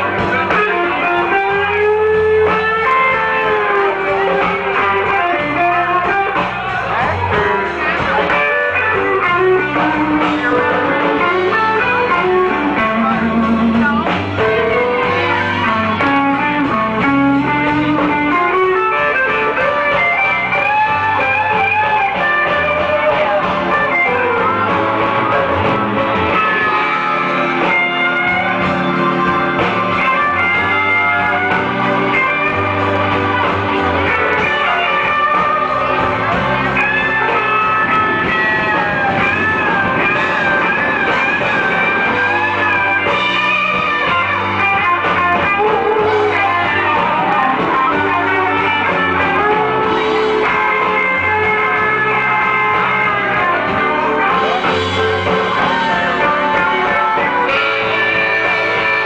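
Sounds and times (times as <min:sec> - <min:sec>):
blues band playing: 0:00.0 - 0:59.0
electric guitar: 0:00.0 - 0:59.0.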